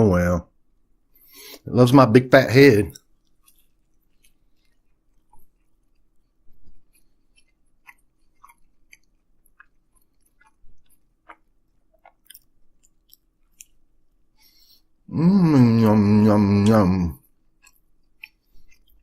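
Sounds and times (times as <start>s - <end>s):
person chewing food: 2.9s - 19.0s.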